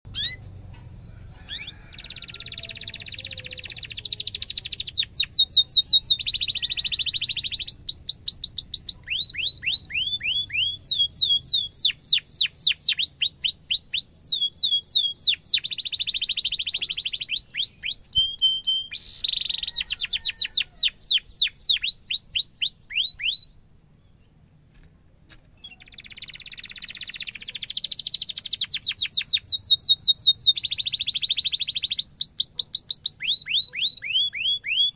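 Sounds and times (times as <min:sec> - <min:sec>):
canary singing: 0:00.1 - 0:24.4, 0:25.6 - 0:34.9.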